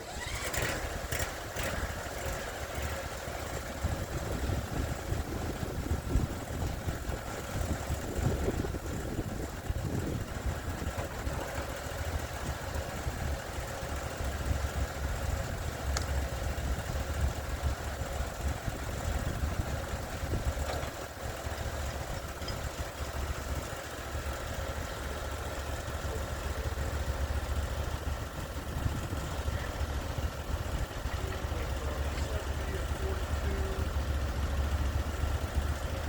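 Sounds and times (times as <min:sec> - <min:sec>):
sawmill engine running: 0:00.0 - 0:36.0.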